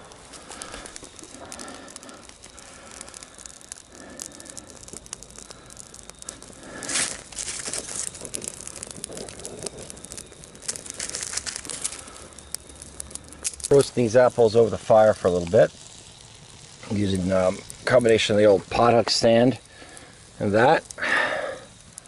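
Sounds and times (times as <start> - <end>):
fire rushing: 0.0 - 22.0
twig fire crackling: 0.0 - 22.0.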